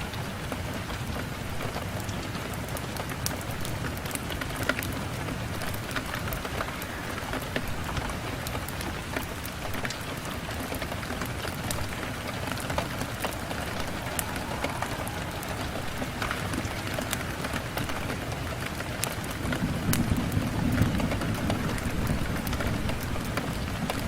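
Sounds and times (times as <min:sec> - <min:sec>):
rain on a window: 0:00.0 - 0:24.0.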